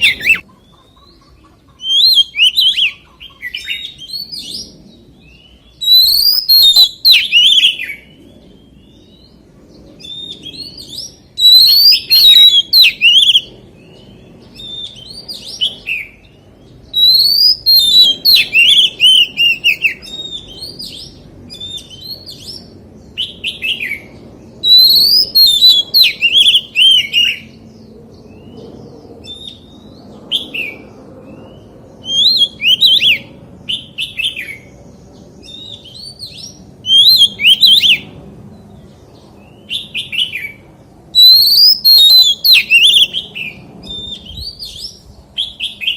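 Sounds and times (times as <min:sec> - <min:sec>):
bird singing: 0:00.0 - 0:45.9.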